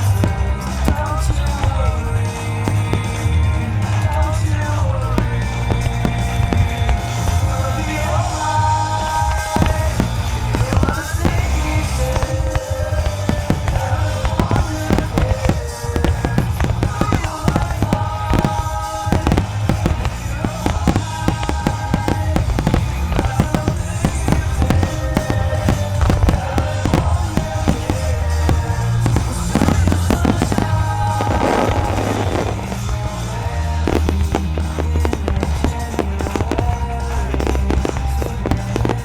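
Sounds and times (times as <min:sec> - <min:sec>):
fireworks bursting: 0:00.0 - 0:39.0
music playing: 0:00.0 - 0:39.0.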